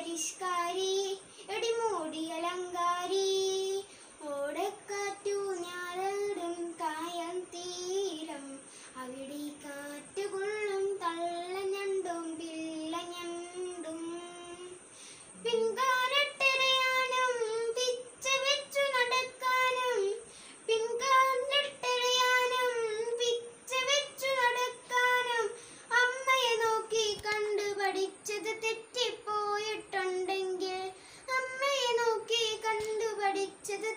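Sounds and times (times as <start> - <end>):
boy singing: 0.0 - 33.9.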